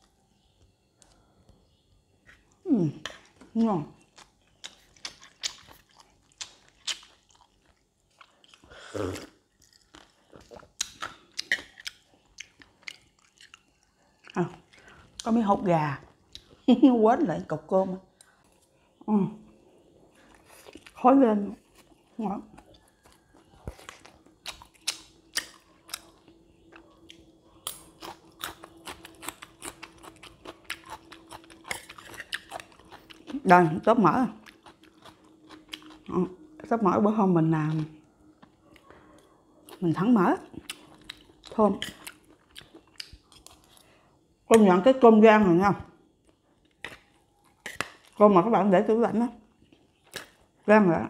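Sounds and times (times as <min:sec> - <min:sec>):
person chewing crunchy food: 0:01.0 - 0:15.4, 0:16.1 - 0:16.7, 0:18.1 - 0:36.7, 0:37.7 - 0:44.4, 0:46.1 - 0:48.2, 0:49.5 - 0:50.6.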